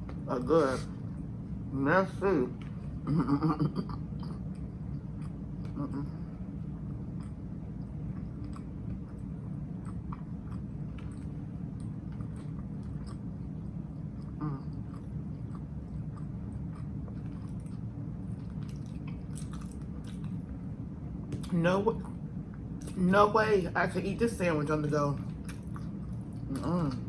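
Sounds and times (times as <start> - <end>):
steady low hum: 0.0 - 27.0
person chewing sandwich: 2.7 - 23.0, 25.3 - 27.0.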